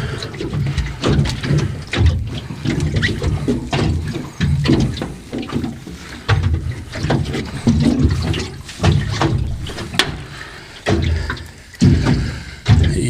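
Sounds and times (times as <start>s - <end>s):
water splashing and sloshing: 0.0s - 13.0s
sharp knocks and clicks: 0.4s - 13.0s.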